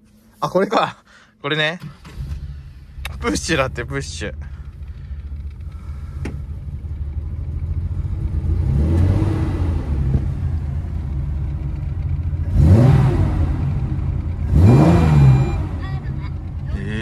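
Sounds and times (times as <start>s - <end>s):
car engine revving: 2.0s - 17.0s.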